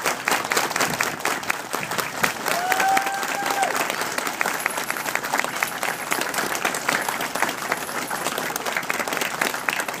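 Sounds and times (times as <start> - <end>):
large audience clapping: 0.0 - 10.0.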